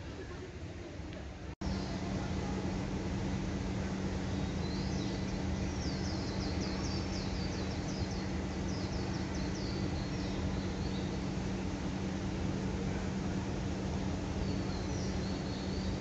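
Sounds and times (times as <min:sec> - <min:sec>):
outdoor background noise: 0:00.0 - 0:16.0
steady low hum: 0:00.0 - 0:16.0.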